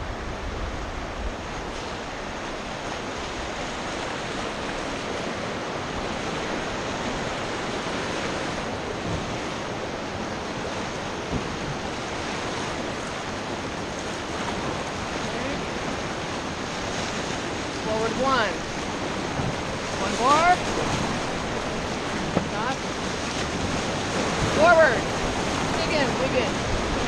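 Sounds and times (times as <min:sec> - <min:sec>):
rushing river rapids: 0:00.0 - 0:27.0
wind buffeting microphone: 0:00.0 - 0:27.0.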